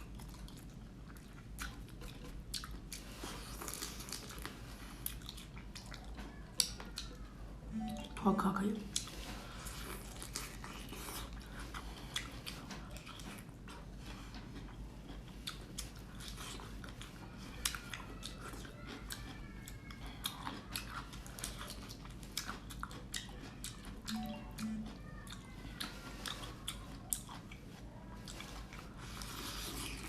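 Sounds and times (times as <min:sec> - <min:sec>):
wet biting and chewing: 0:00.0 - 0:07.3, 0:08.9 - 0:30.0.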